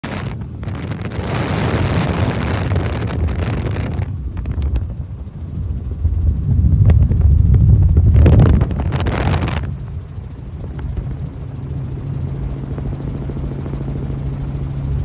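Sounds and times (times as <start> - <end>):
wind buffeting microphone: 0.0 - 13.8
helicopter low rumble: 0.0 - 15.0.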